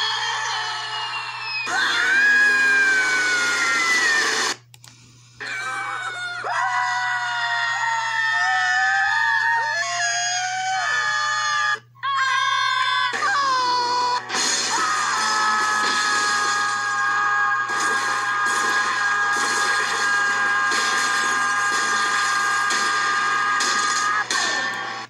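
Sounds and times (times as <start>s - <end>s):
cartoon screams: 0.0s - 4.6s, 5.4s - 24.7s.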